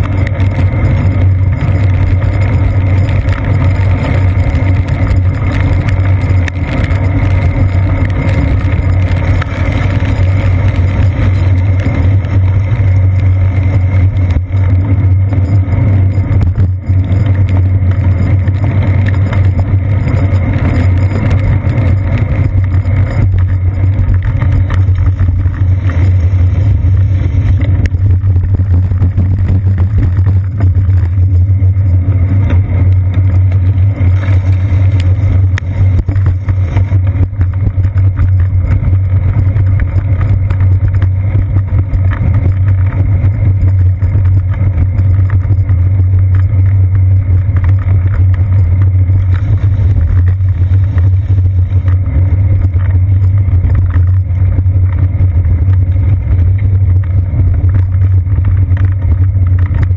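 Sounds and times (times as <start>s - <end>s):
bicycle road vibration: 0.0s - 59.9s
wind rumble: 0.0s - 59.9s.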